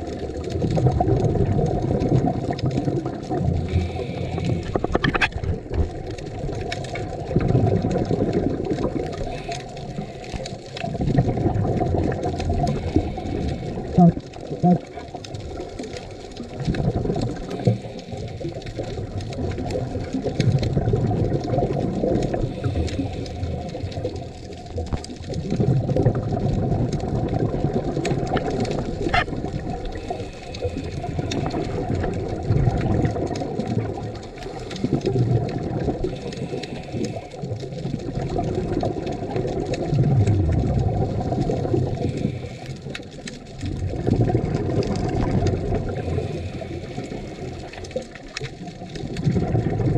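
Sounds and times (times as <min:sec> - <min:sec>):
underwater exhaled bubbles: 0:00.0 - 0:49.9.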